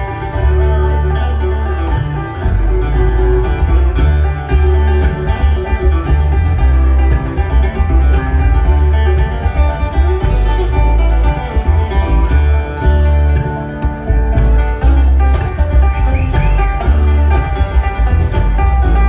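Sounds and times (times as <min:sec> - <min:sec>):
banjo: 0:00.0 - 0:19.0
fiddle: 0:00.0 - 0:19.0
upright bass: 0:00.0 - 0:19.0.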